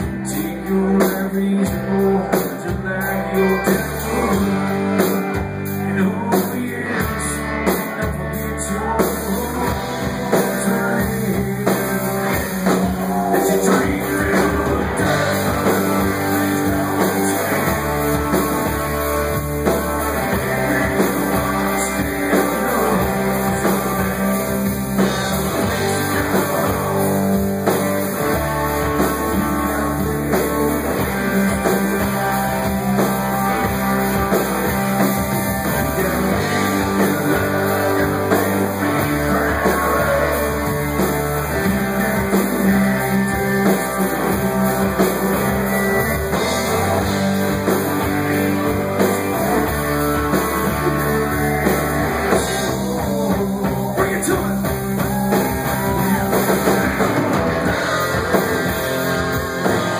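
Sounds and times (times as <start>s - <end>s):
country band playing: 0.0s - 59.9s.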